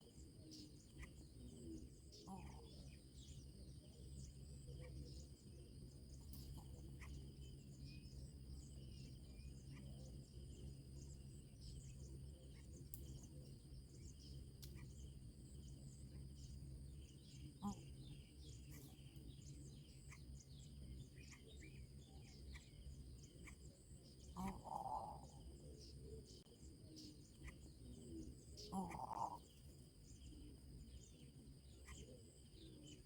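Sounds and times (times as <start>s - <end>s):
faint bird chirps: 0.0s - 33.0s
insect drone: 0.0s - 33.0s
low hum: 0.1s - 33.0s.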